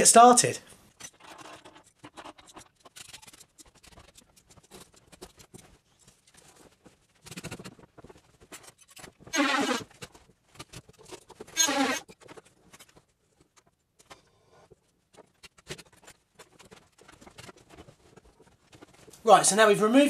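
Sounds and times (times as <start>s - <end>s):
hand tools scratching and clicking: 0.9s - 14.2s, 14.8s - 19.2s.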